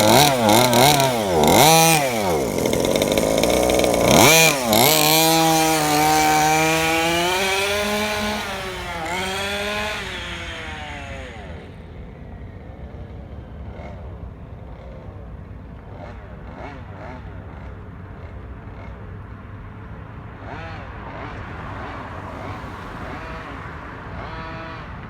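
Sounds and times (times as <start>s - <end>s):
small two-stroke engine buzzing: 0.0s - 25.0s.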